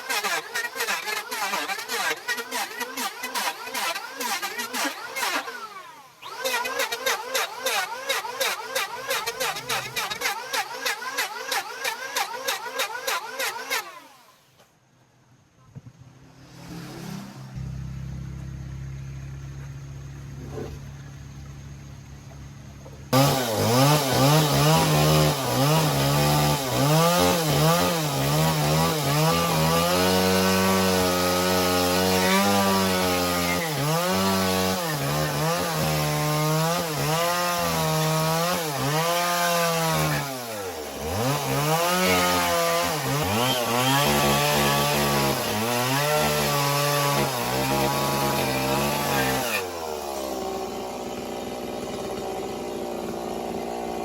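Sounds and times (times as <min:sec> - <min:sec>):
chainsaw cutting wood: 0:00.0 - 0:14.7, 0:23.1 - 0:54.0.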